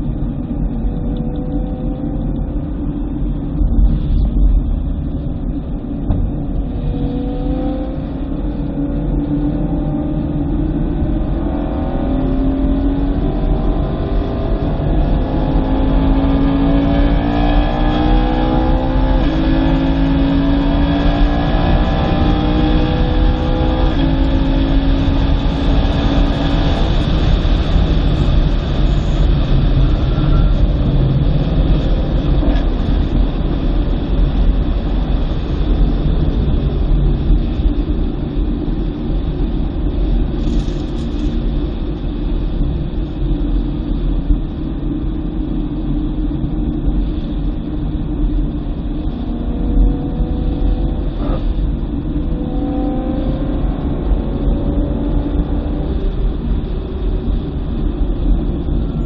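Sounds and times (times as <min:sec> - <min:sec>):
car engine running: 0:00.0 - 0:53.3
road and tyre noise: 0:00.0 - 0:59.0.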